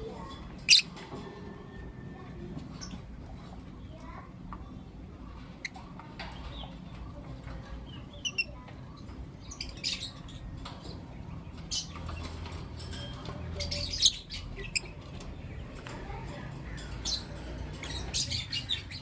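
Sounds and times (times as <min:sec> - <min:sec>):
lovebirds chirping: 0:00.0 - 0:01.8, 0:02.6 - 0:19.0.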